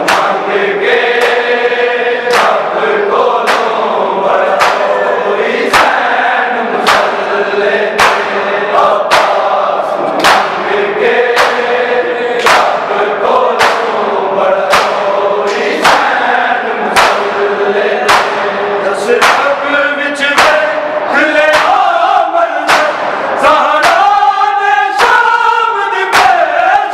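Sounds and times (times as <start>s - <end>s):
hands slapping chests in unison: 0.0s - 25.4s, 26.0s - 26.9s
men chanting a lament: 0.0s - 26.9s.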